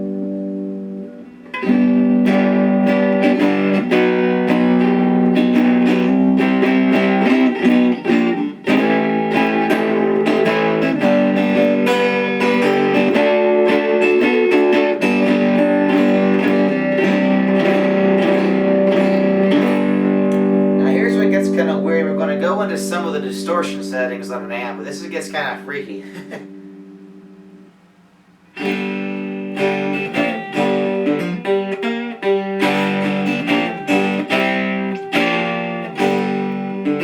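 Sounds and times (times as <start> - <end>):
electric banjo chord ringing: 0.0 - 27.9, 28.6 - 37.0
electric banjo picked notes: 0.0 - 37.0.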